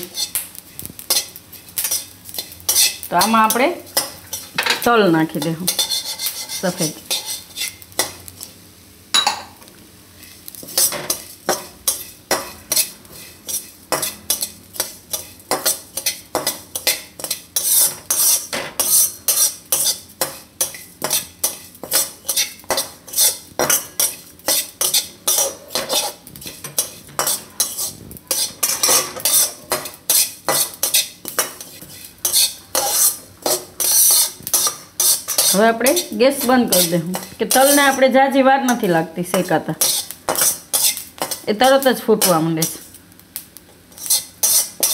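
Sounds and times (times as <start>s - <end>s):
metal spatula scraping: 0.0s - 8.2s, 10.2s - 42.9s, 43.9s - 44.9s.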